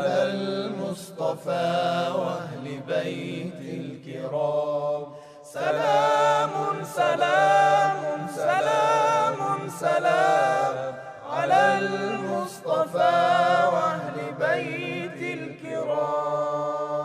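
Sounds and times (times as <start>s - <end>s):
person singing devotional song: 0.0s - 17.0s.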